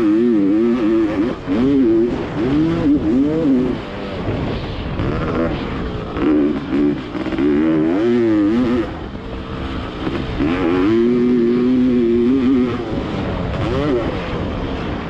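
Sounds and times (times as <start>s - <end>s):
two-stroke motorbike revving: 0.0s - 15.0s.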